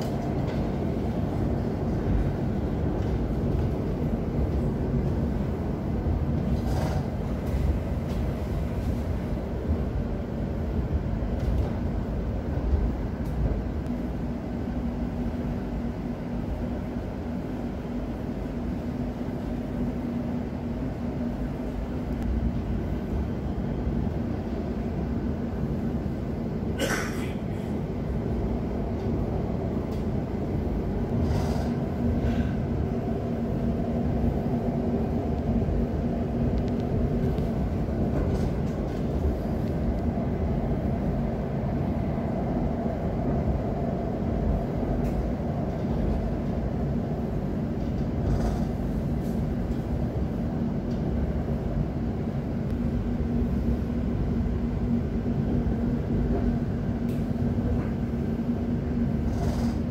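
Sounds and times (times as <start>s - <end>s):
steady train hum: 0.0s - 59.9s
train wheels rumbling on track: 0.0s - 59.9s.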